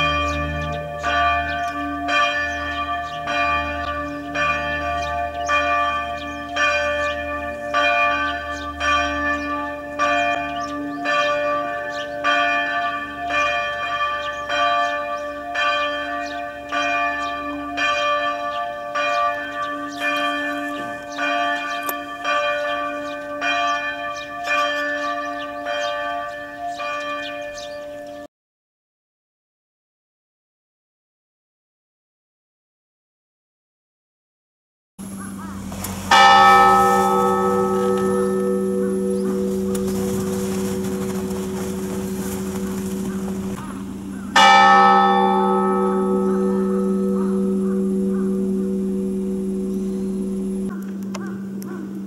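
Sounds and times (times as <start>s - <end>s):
church bells ringing: 0.0s - 28.3s, 35.0s - 52.0s.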